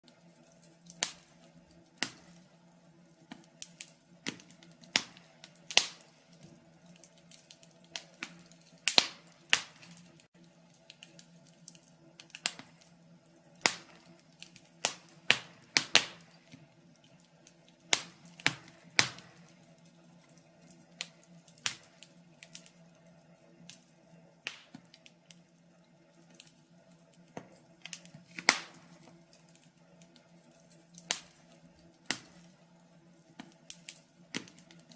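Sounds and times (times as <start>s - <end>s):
log fire crackling and popping: 0.0s - 34.9s.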